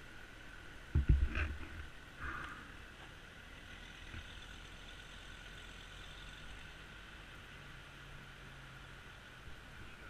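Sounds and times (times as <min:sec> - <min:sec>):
engine idling hum: 0:00.0 - 0:10.0.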